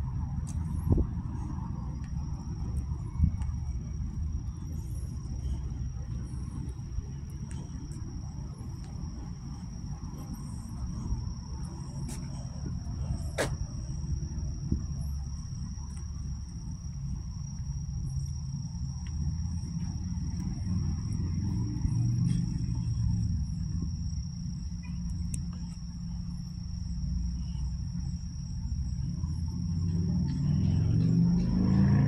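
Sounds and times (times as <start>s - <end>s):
low rumble: 0.0s - 32.0s
high-pitched insect drone: 1.6s - 32.0s.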